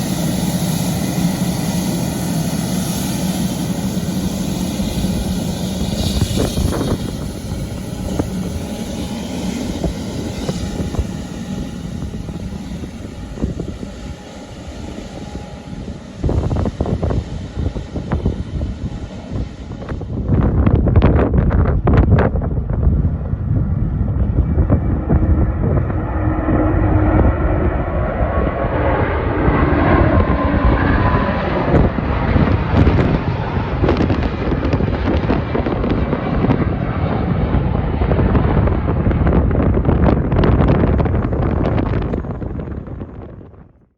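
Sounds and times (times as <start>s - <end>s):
jet engines rumbling: 0.0s - 43.9s
wind buffeting microphone: 0.0s - 43.9s.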